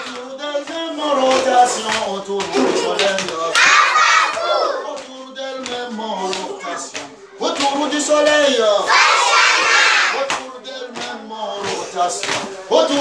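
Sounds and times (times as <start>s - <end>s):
hand claps: 0.0s - 8.5s, 10.2s - 13.0s
children chanting and shouting: 0.0s - 13.0s.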